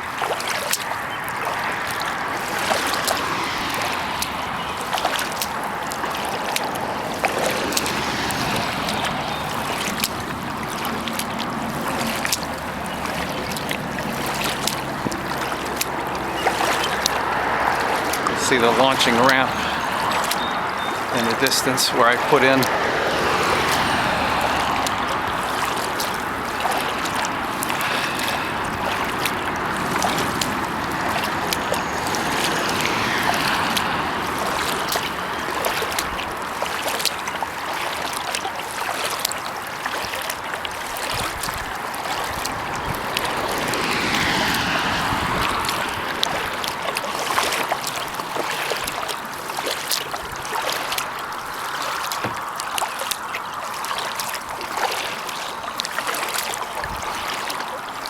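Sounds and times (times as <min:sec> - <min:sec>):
paddle pulling through water: 0:00.0 - 0:58.0
small water splashes: 0:00.0 - 0:58.0
water dripping off paddle: 0:00.0 - 0:58.0.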